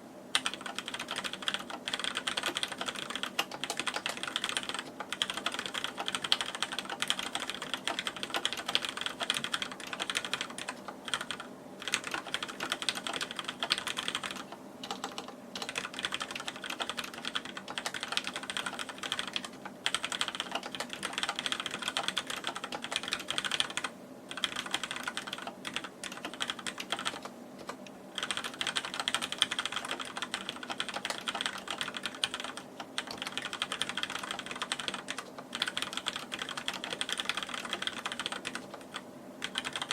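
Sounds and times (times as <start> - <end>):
mechanical keyboard typing: 0.3 - 39.9.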